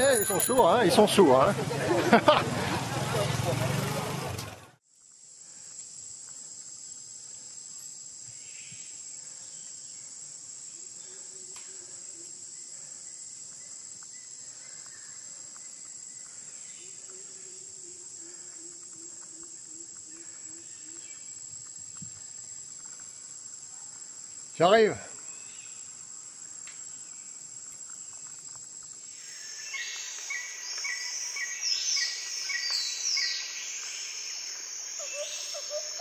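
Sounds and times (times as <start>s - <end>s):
insects buzzing: 4.9s - 36.0s.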